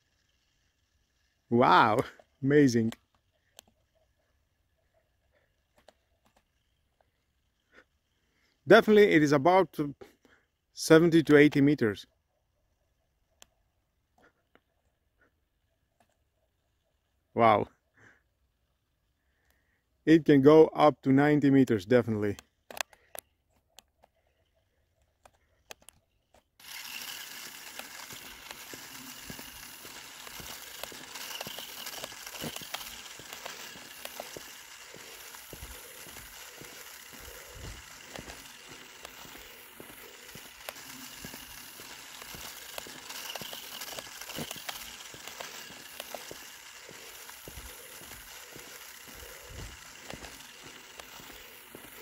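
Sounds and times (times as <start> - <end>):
toy car tires crunching over ground: 0.0 - 17.6, 18.5 - 52.0.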